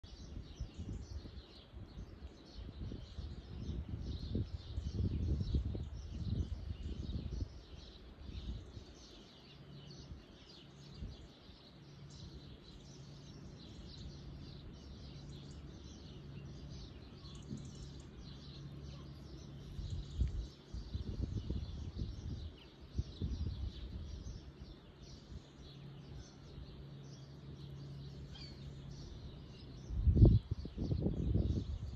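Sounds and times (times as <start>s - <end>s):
faint low hum: 0.0s - 31.9s
low rumble on microphone: 0.0s - 31.9s
small birds chirping: 0.0s - 31.9s.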